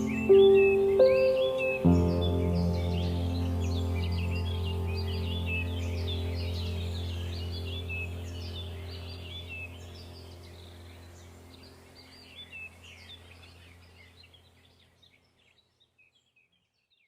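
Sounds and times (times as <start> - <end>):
low hum: 0.0 - 14.5
small birds chirping: 0.0 - 17.0.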